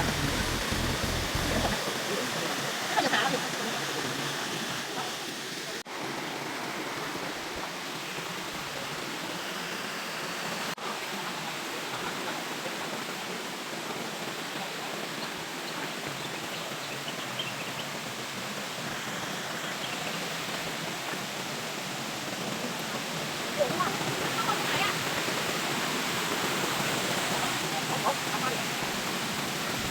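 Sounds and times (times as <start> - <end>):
waterfall roaring: 0.0 - 29.9.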